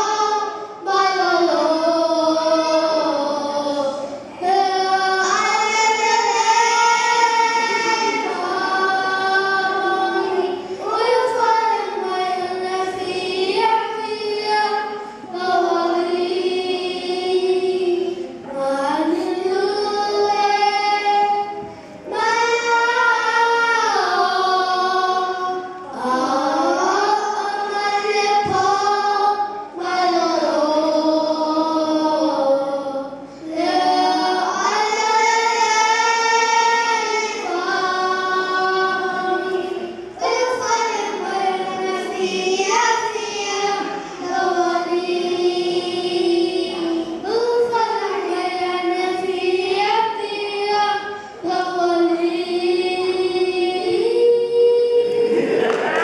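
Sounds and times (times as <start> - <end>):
children singing into microphones: 0.0 - 56.0.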